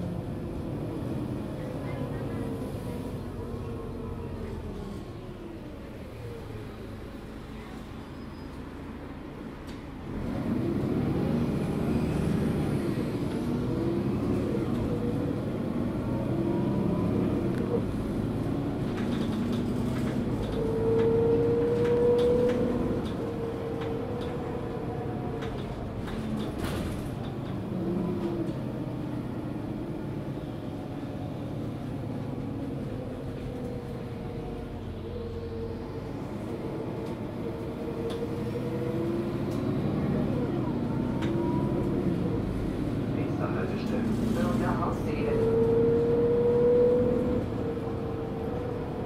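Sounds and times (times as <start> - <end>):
bus diesel engine pulling away: 0.0 - 49.0.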